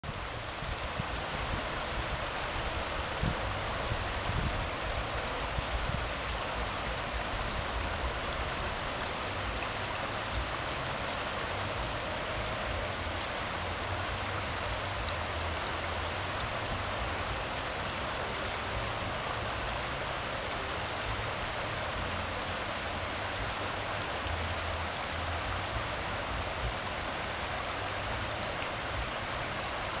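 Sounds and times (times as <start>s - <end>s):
river rushing over gravel: 0.0s - 30.0s.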